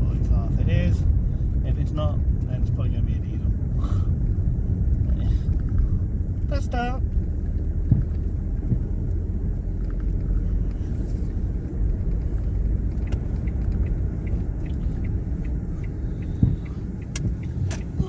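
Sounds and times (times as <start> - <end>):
car engine and road rumble: 0.0 - 18.0
light regular ticking: 3.4 - 18.0.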